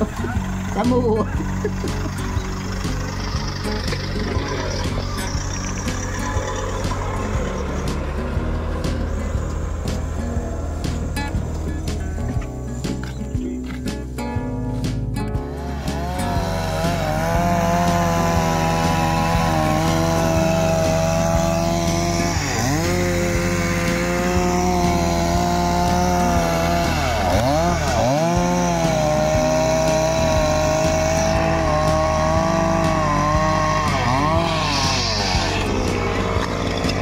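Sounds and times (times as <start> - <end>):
chainsaw cutting wood: 0.0 - 14.2, 15.3 - 37.0.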